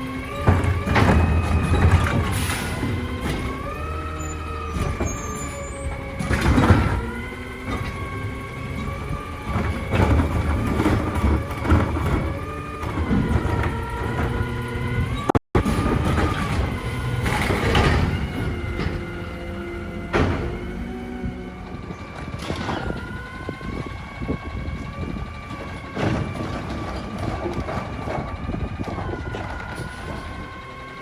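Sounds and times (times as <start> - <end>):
garbage truck engine rumbling: 0.0 - 31.0
hydraulics whining: 0.0 - 31.0.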